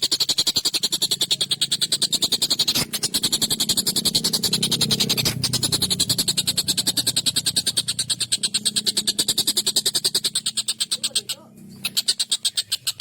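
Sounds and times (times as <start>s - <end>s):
kingfisher rattling chatter: 0.0s - 13.0s
low background hum: 0.0s - 13.0s.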